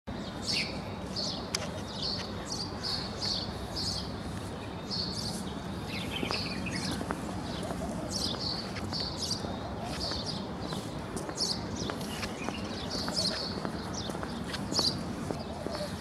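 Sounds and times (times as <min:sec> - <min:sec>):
small birds chirping: 0:00.1 - 0:16.0
steady background noise: 0:00.1 - 0:16.0.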